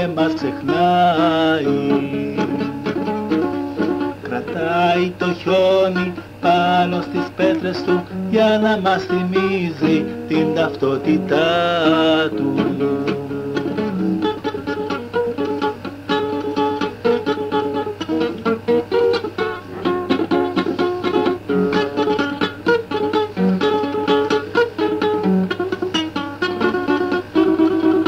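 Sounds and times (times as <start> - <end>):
guitar picking quick notes: 0.0 - 28.0.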